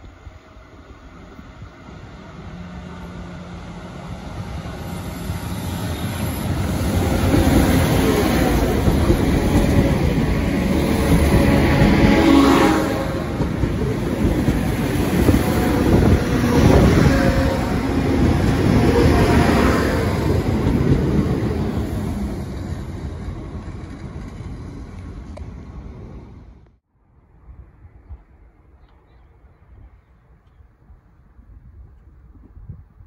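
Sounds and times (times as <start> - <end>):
diesel train passing: 0.0 - 28.5.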